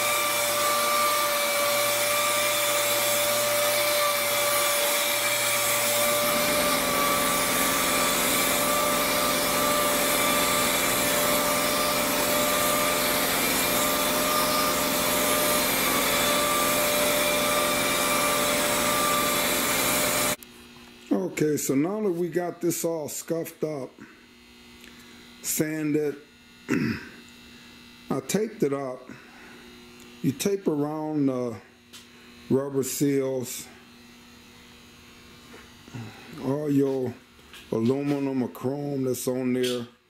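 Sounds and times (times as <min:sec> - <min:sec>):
orbital sander whining: 0:00.0 - 0:20.4, 0:22.0 - 0:39.6.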